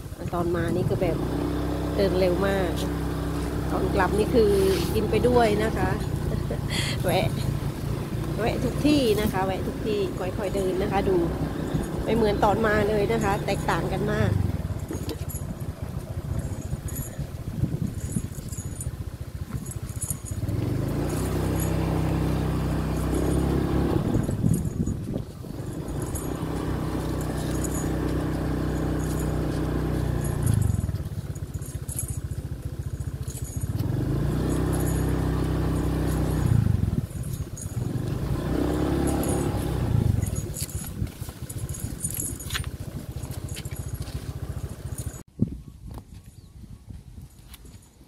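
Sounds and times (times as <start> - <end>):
faint metallic jingling: 0.0 - 45.3
small motorcycle engine: 0.0 - 45.3.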